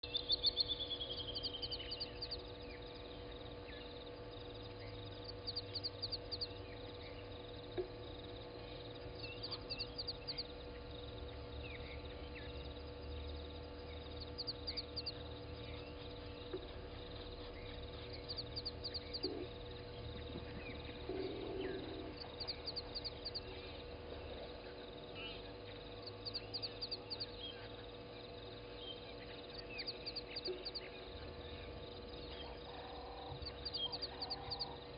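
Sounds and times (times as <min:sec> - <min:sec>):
faint chirps: 0:00.0 - 0:34.9
low electrical hum: 0:00.0 - 0:34.9.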